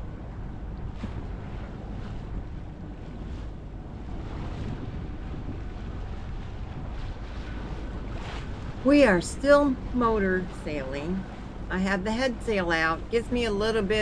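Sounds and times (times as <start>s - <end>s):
water rushing past hull: 0.0s - 14.0s
wind buffeting microphone: 0.0s - 14.0s.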